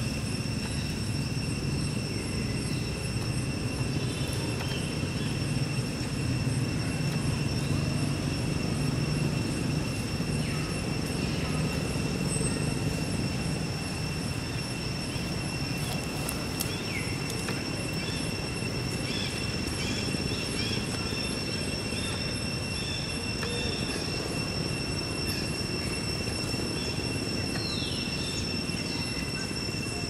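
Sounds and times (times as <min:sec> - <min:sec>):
high-pitched whine: 0:00.0 - 0:30.0.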